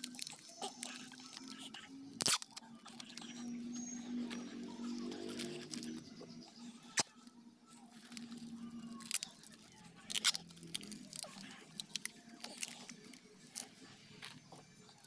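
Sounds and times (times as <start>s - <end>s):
packing tape crackling: 0.0s - 6.1s, 6.8s - 15.0s.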